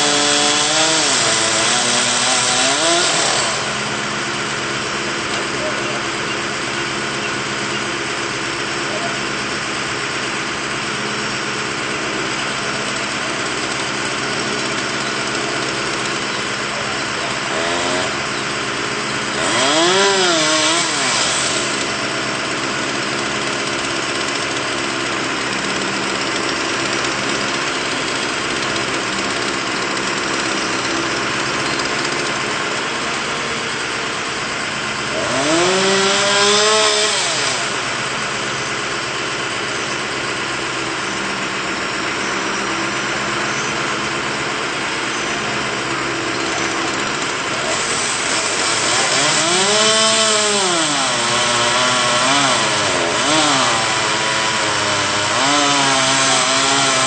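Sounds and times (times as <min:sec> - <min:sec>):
chainsaw revving: 0:00.0 - 0:57.0
truck engine idling: 0:00.0 - 0:57.0.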